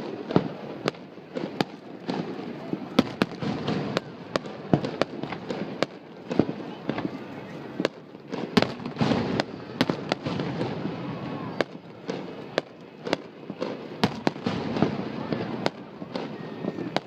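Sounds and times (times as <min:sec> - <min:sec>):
firework bangs and pops: 0:00.0 - 0:17.0.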